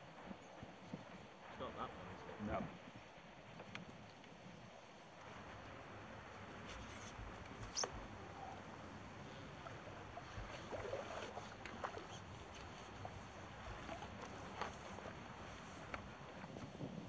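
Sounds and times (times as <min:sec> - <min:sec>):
faint wind: 0:00.0 - 0:17.0.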